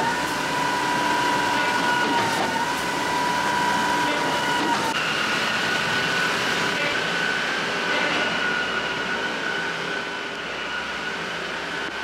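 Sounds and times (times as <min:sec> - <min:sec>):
pumping machinery whining: 0:00.0 - 0:12.0.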